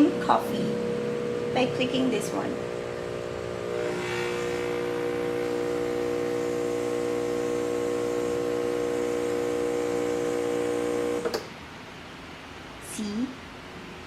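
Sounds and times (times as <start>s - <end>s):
espresso machine pump humming: 0.0s - 11.4s.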